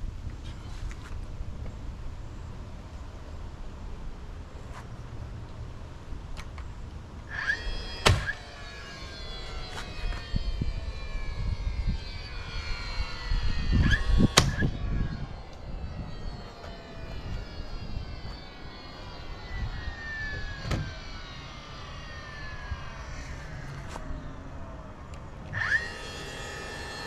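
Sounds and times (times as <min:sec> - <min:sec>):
aircraft engine whine: 0:00.0 - 0:27.0.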